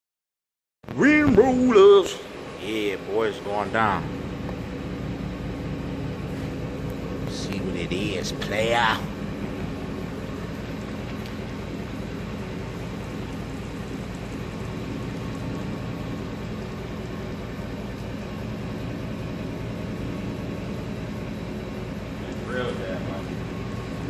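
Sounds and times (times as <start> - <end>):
truck engine idling: 1.0 - 24.0.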